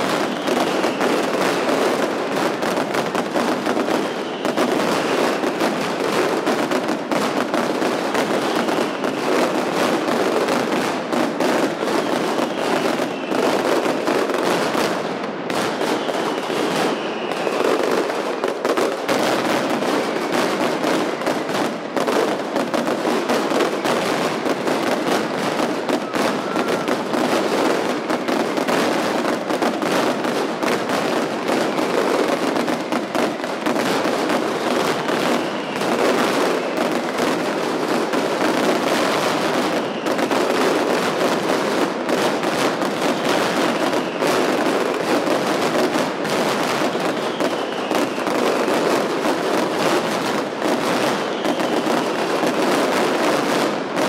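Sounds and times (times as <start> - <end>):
firecrackers cracking and banging: 0.0 - 54.0.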